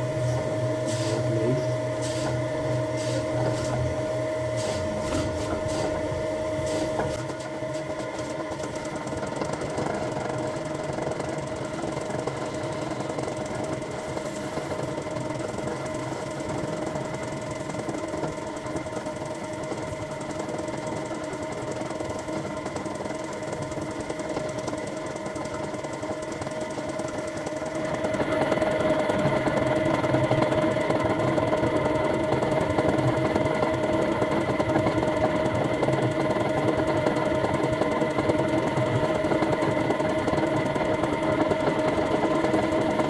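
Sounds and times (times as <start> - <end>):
metal lathe whining: 0.0 - 43.0.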